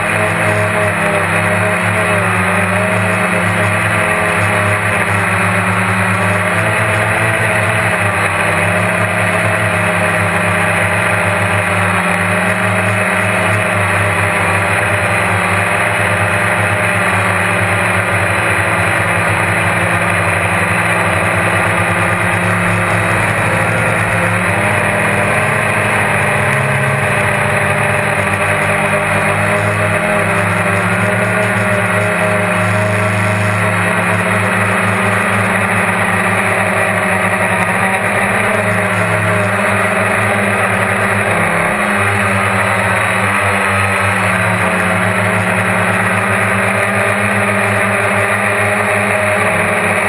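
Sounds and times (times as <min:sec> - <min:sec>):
quadcopter propellers buzzing: 0:00.0 - 0:50.0.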